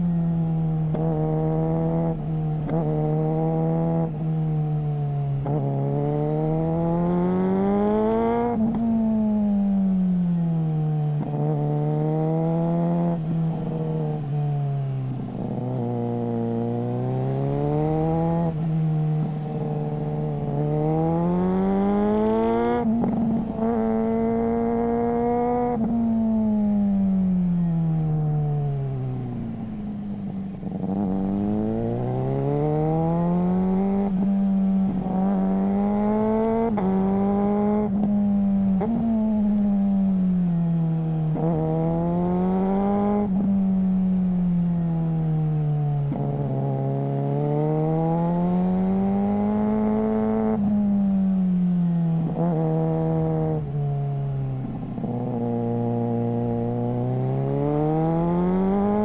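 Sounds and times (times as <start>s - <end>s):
motorcycle engine revving: 0.8s - 4.4s, 5.2s - 9.7s, 11.1s - 27.3s, 28.2s - 59.0s.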